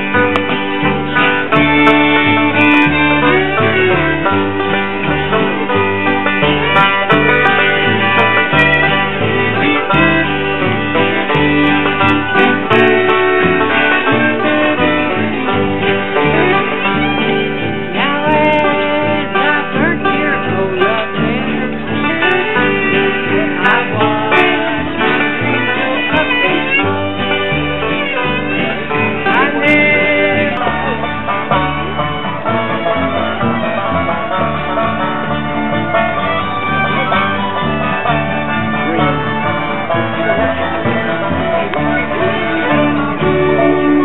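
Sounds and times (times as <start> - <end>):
bluegrass string-band music: 0.0 - 44.0
guitar and banjo playing: 0.0 - 44.0.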